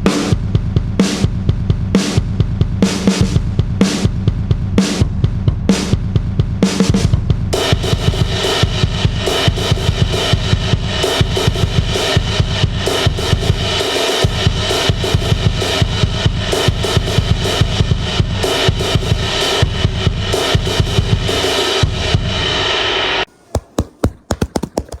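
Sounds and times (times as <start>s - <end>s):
music with fast drum beat: 0.0s - 22.8s.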